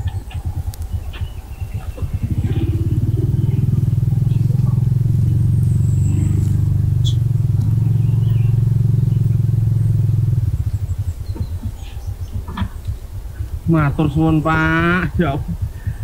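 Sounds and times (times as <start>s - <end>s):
motor scooter engine running: 0.0s - 16.0s.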